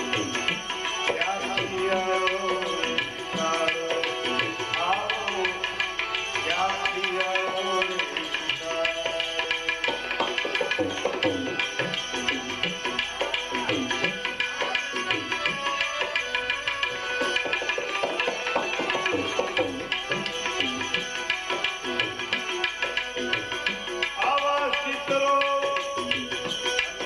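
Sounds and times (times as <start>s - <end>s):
tabla playing fast rhythm: 0.0s - 27.0s.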